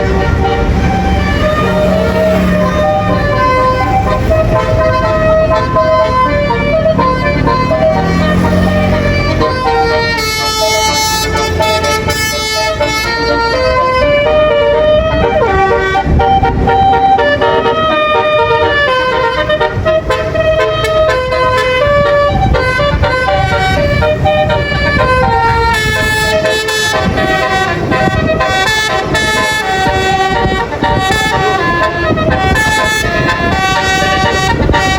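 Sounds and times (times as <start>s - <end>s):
bus horn playing a tune: 0.0s - 34.9s
moving bus rumble: 0.0s - 34.9s.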